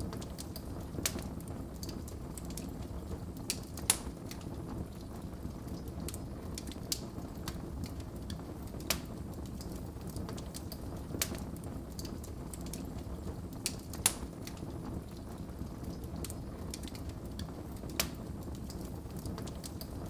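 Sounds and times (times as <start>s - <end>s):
fire popping and snapping: 0.0s - 20.0s
wood fire rumbling: 0.0s - 20.0s.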